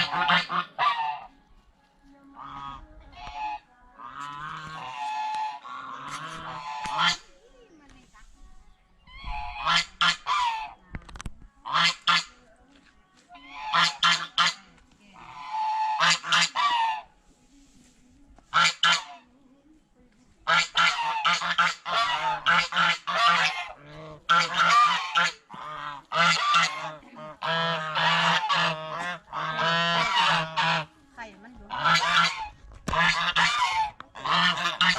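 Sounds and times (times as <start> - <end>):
geese honking: 0.0 - 1.4, 2.3 - 7.4, 9.1 - 10.9, 11.6 - 12.4, 13.4 - 17.2, 18.5 - 19.3, 20.4 - 34.9.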